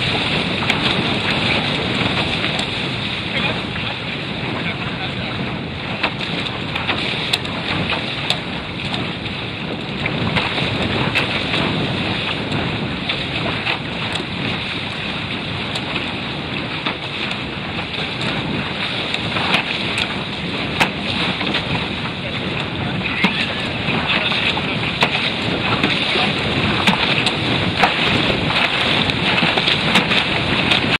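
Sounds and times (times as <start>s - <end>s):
spray and waves slapping: 0.0s - 30.9s
water rushing along a boat hull: 0.0s - 30.9s
wind buffeting microphone: 0.0s - 30.9s.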